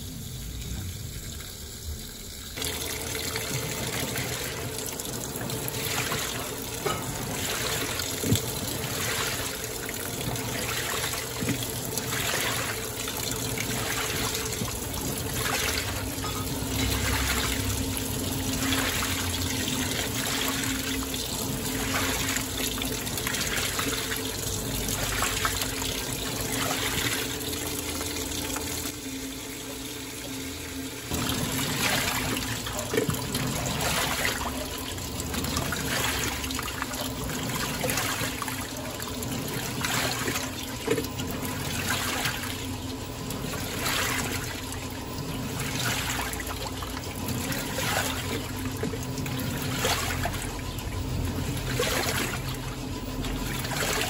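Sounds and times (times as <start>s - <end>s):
water pouring into washer drum: 0.0s - 54.0s
washing machine swishing clothes: 2.6s - 54.0s.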